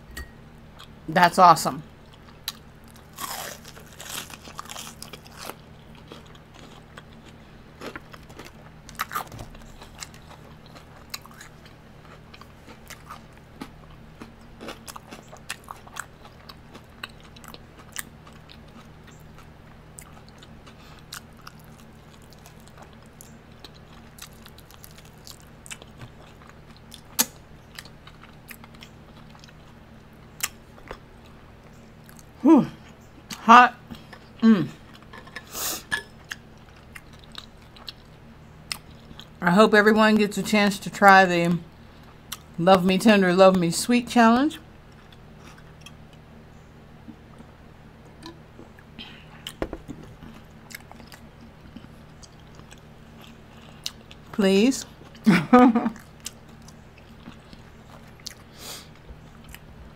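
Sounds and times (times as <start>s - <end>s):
faint low hum: 0.0s - 59.9s
crunchy chewing: 2.0s - 39.4s, 44.8s - 46.3s, 48.2s - 55.3s, 55.9s - 59.7s.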